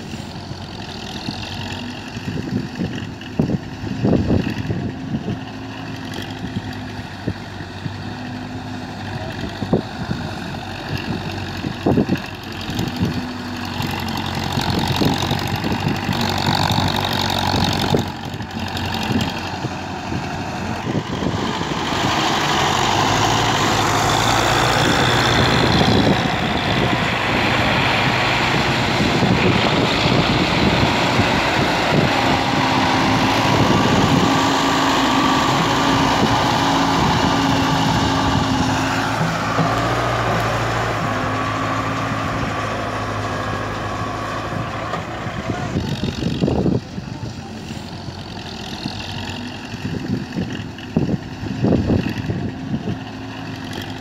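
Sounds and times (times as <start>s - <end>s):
tractor diesel engines: 0.0s - 54.0s.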